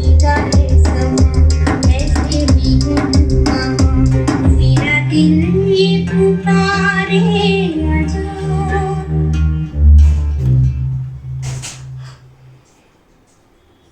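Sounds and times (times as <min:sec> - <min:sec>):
heavy bass notes: 0:00.0 - 0:12.7
sung melody: 0:00.0 - 0:12.7
song through a soundbar: 0:00.0 - 0:12.9.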